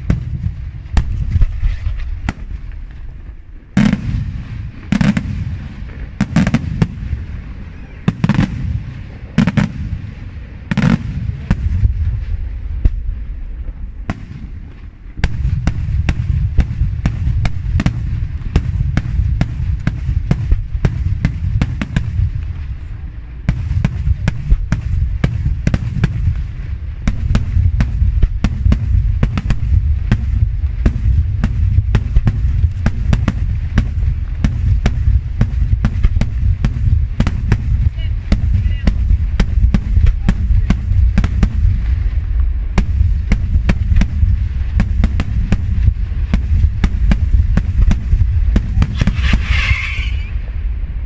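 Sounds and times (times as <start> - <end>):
fireworks bursting with sharp bangs: 0.0 - 51.0
steady low rumble: 0.0 - 51.0.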